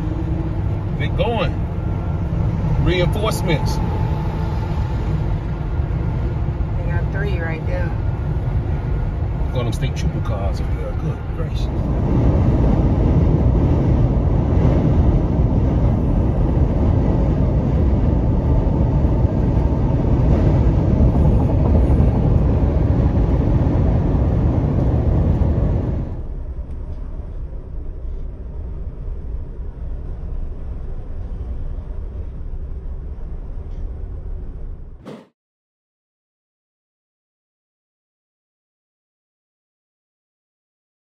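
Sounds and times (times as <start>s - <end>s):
road and wind noise inside truck: 0.0s - 35.0s.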